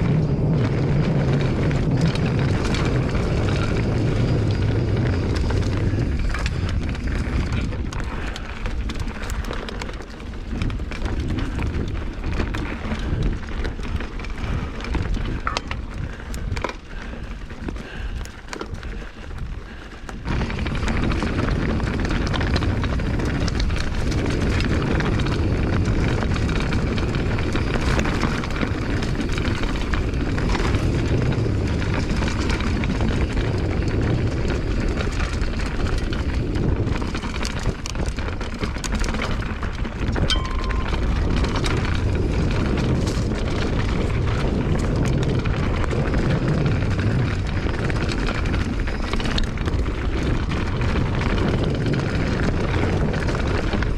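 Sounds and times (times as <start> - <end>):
bicycle tyre rumble on trail: 0.0 - 53.9
wind buffeting microphone: 0.0 - 53.9.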